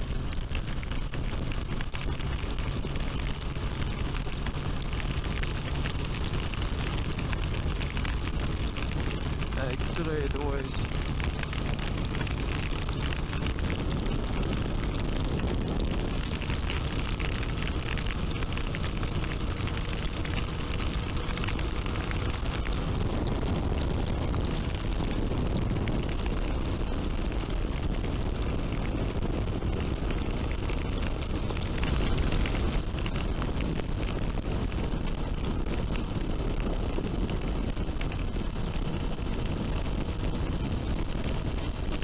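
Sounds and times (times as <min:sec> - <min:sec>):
motorcycle road noise: 0:00.0 - 0:42.0
wind rumble on microphone: 0:00.0 - 0:42.0.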